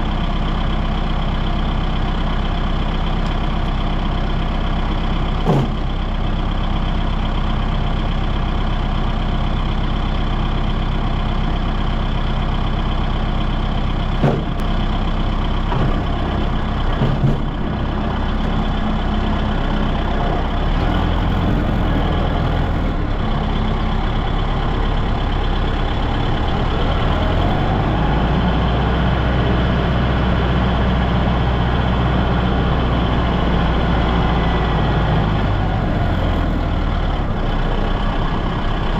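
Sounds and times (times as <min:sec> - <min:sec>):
large engine idling: 0:00.0 - 0:38.9.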